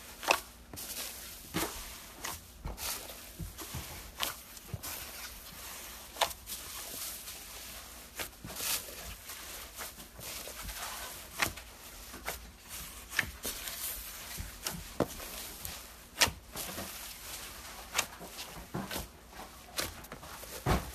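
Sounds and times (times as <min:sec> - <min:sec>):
slime squishing: 0:00.0 - 0:20.9.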